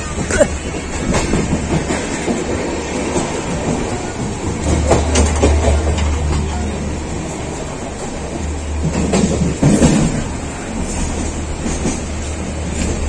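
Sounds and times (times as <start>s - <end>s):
rail joints clacking: 0.0s - 13.0s
train wheels rumbling on rails: 0.0s - 13.0s.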